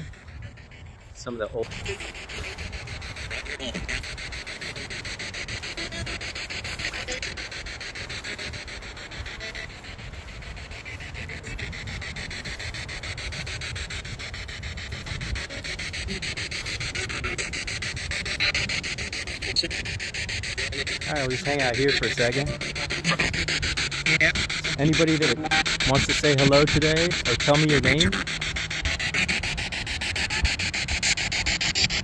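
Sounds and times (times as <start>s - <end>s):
pulsing radio static: 0.0s - 32.0s.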